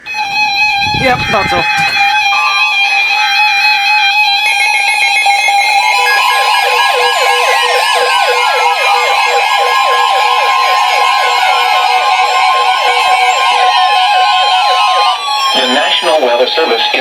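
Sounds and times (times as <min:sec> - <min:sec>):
electronic alert beeping: 0:00.0 - 0:17.0
steady high tone: 0:00.0 - 0:17.0
warbling siren-like tone: 0:00.0 - 0:17.0.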